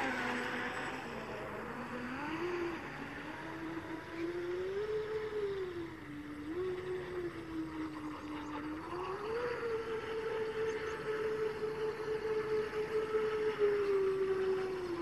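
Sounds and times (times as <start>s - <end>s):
model speedboat motor whining: 0.0s - 15.0s.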